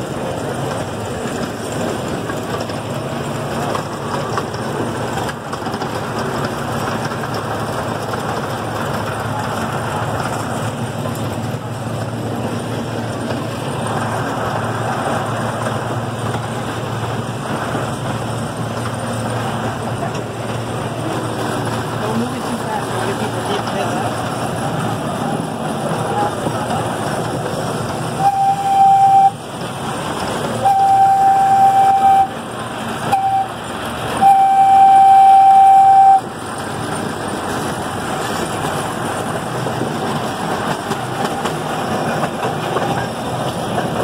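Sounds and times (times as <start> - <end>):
miniature train engine drone: 0.0 - 44.0
rumble of moving train cars: 0.0 - 44.0.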